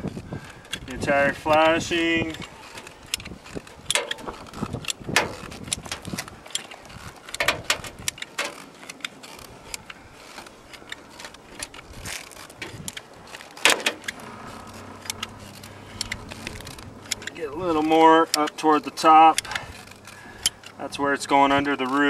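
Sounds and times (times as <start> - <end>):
caulking gun clicking: 1.5 - 20.8.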